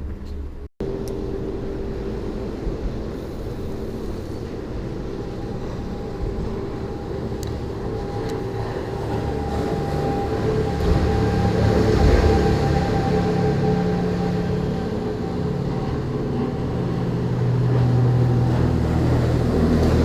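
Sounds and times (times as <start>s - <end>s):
motor engine humming: 0.0s - 20.0s.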